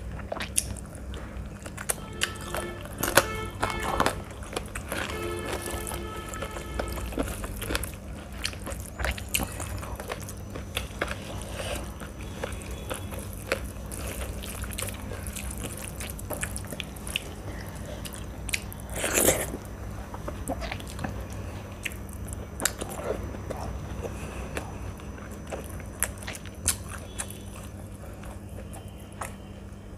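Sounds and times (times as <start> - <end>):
wet chewing and mouth clicks: 0.0 - 29.8.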